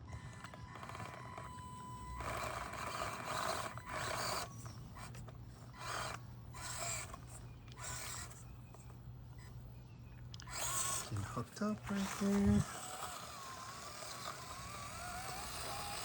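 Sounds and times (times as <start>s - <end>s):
rc car motor and gears whirring: 0.0s - 16.0s.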